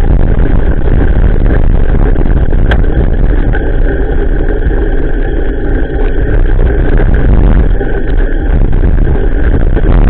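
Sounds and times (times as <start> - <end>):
bicycle road rumble: 0.0 - 10.0
wind on microphone: 0.0 - 10.0.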